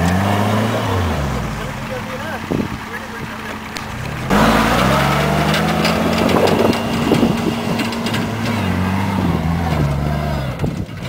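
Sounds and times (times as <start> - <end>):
jeep engine running under load: 0.0 - 11.0
vehicle rattling over rough ground: 0.0 - 11.0.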